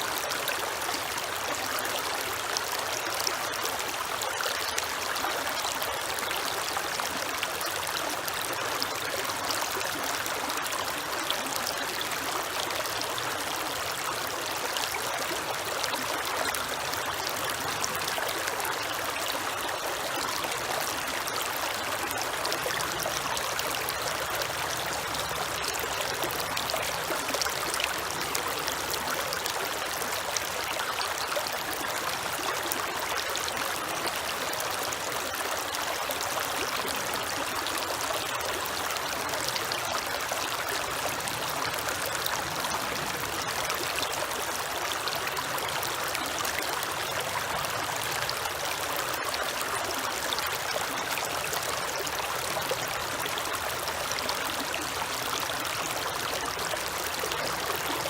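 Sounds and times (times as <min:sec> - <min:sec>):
creek water over rocks: 0:00.0 - 0:58.0.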